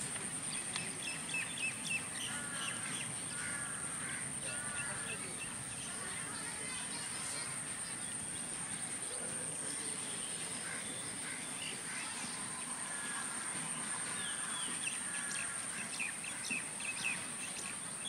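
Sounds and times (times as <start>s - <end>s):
birds chirping: 0.0s - 18.0s
outdoor background noise: 0.0s - 18.0s.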